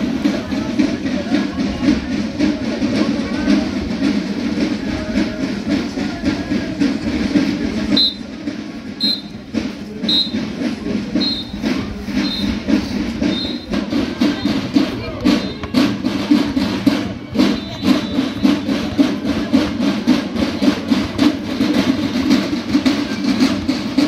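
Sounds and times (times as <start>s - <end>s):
music with drums and percussion: 0.0s - 24.0s.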